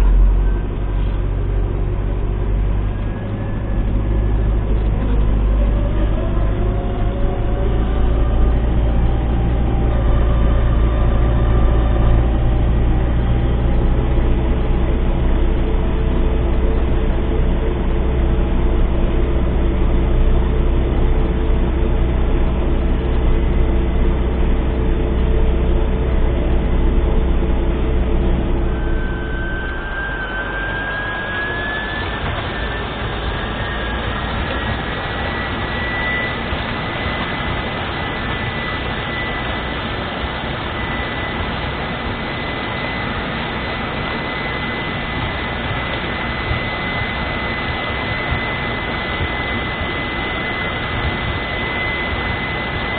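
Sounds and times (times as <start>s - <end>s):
high whine: 0.0s - 52.9s
tractor diesel engine running: 0.0s - 52.9s.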